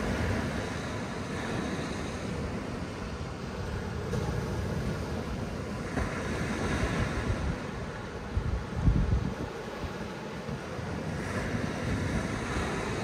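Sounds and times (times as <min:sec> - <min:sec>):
waves breaking on beach: 0:00.0 - 0:13.0
wind rumble on microphone: 0:00.0 - 0:13.0.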